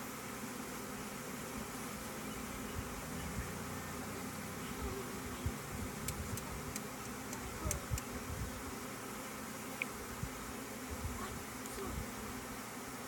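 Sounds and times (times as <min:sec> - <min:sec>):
honeybee swarm buzzing: 0:00.0 - 0:13.0.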